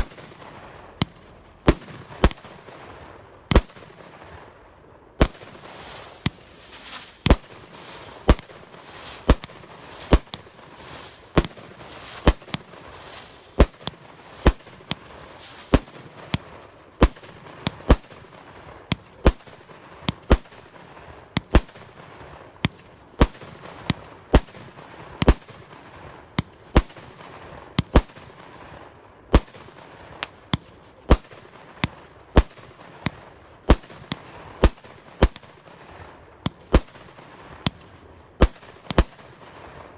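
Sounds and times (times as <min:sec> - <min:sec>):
firework cake sharp bangs: 0:00.0 - 0:28.7, 0:29.3 - 0:39.9
crackling hiss: 0:00.0 - 0:39.9.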